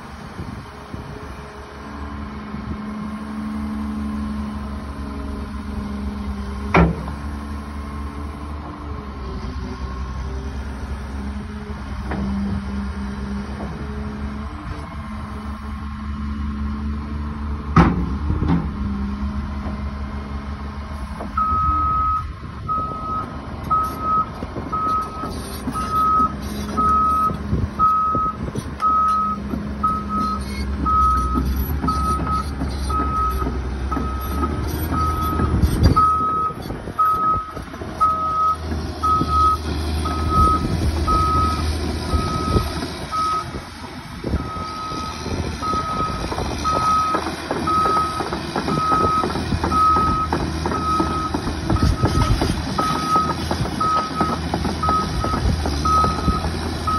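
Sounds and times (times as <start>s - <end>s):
excavator engine running: 0.0s - 56.9s.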